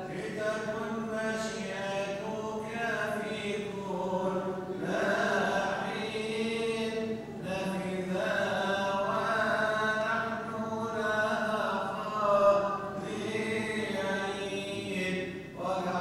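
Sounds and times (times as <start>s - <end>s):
liturgical chanting: 0.0s - 16.0s.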